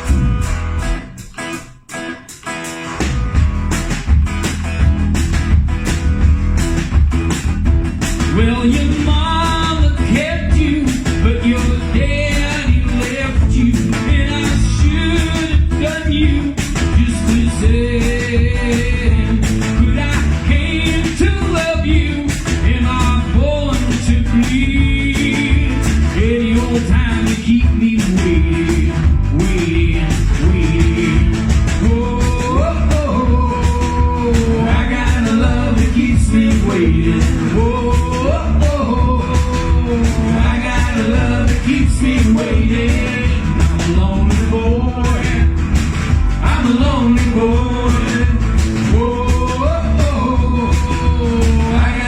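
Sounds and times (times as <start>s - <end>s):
rock band playing: 0.0s - 52.0s.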